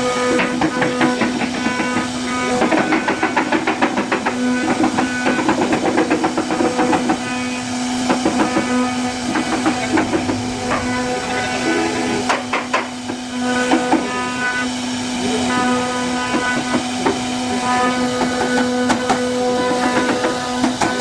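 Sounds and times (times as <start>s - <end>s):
bit cutting wood chatter: 0.0s - 21.0s
router spindle whining: 0.0s - 21.0s.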